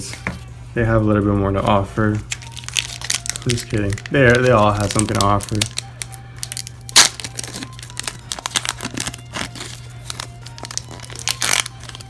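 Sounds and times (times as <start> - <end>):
foil wrapper crinkling and tearing: 2.2 - 12.0.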